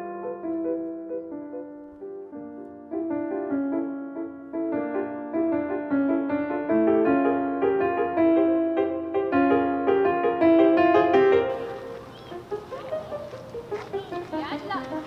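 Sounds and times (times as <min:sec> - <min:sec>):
gentle classical piano piece: 0:00.0 - 0:15.0.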